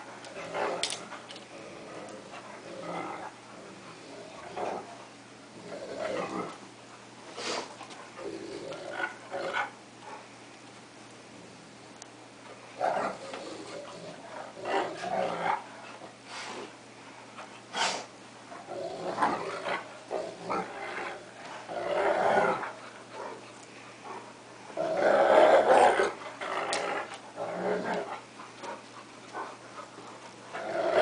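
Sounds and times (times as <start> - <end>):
dogs growling while play-fighting: 0.0 - 10.3, 12.7 - 17.7, 18.4 - 31.0.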